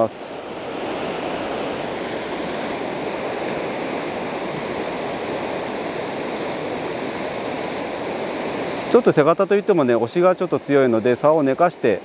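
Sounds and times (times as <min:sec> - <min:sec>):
fast river rushing: 0:00.0 - 0:12.0.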